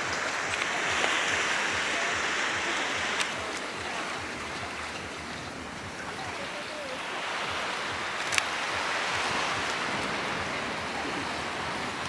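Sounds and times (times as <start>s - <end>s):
surf washing onto beach: 0.0s - 12.0s.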